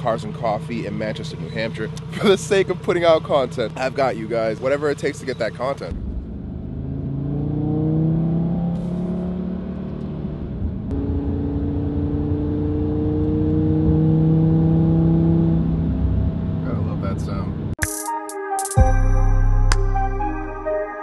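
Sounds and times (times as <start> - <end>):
turbocharged car engine accelerating: 0.0 - 17.8.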